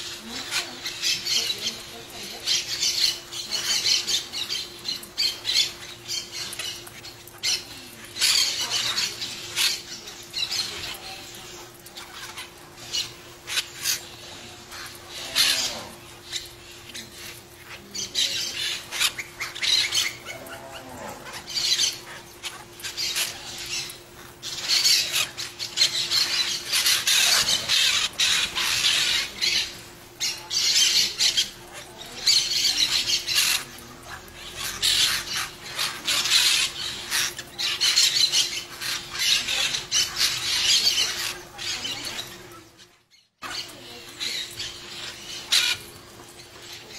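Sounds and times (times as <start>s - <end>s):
parakeet chicks rasping begging calls: 0.0s - 46.9s.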